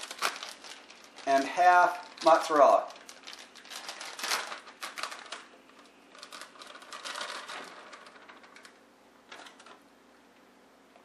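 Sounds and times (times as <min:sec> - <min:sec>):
plastic bag rustling: 0:00.0 - 0:09.8.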